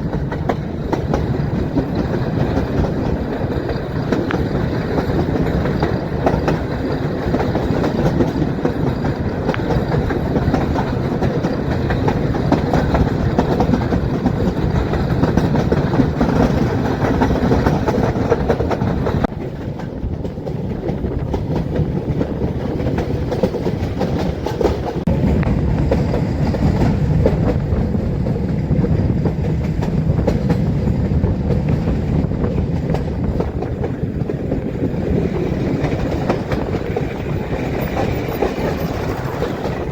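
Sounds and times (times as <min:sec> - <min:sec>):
train coaches rumbling: 0:00.0 - 0:39.9
wheels clacking over rail joints: 0:00.0 - 0:39.9.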